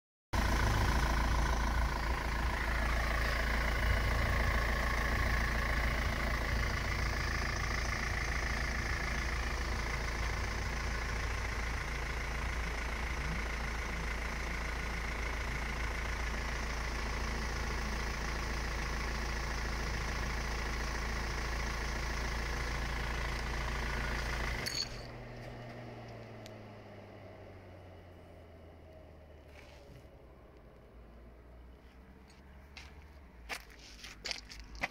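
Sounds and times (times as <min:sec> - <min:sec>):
car engine idling: 0:00.3 - 0:34.9.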